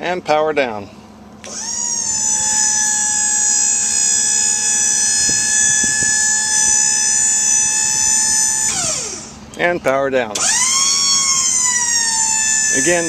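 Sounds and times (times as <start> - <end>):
electric pump motor whining: 1.4 - 9.6, 10.3 - 13.0.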